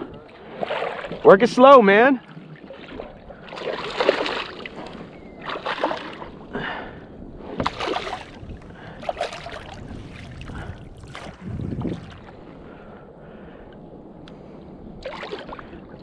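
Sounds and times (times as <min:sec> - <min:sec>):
water splashing around kayak: 0:00.0 - 0:12.8, 0:15.0 - 0:16.0.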